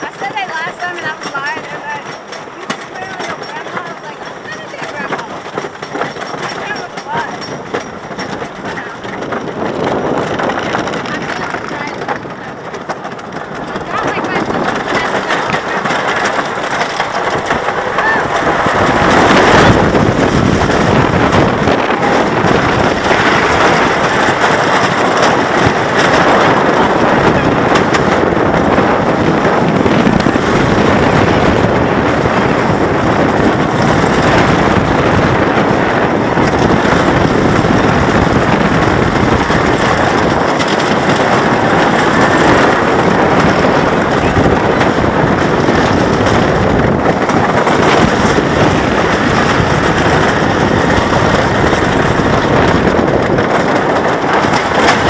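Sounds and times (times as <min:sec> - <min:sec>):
roller coaster wheels rumbling on track: 0:00.0 - 0:55.0
wind rushing over microphone: 0:00.0 - 0:55.0.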